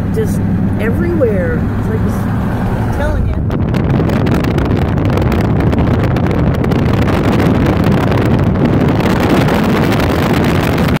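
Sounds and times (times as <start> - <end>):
car road noise at highway speed: 0.0 - 11.0
wind buffeting microphone: 0.0 - 11.0.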